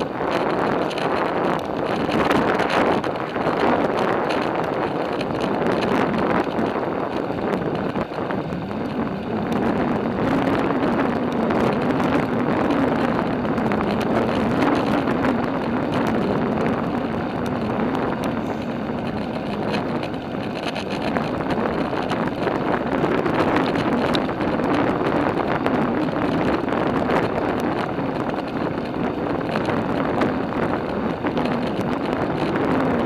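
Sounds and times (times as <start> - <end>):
bicycle tyre noise: 0.0 - 33.0
wind on microphone: 0.0 - 33.0
small rattling clicks: 0.3 - 33.0.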